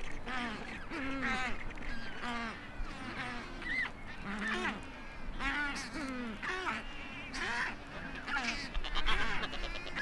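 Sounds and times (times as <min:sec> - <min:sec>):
seabird colony calling: 0:00.0 - 0:10.0.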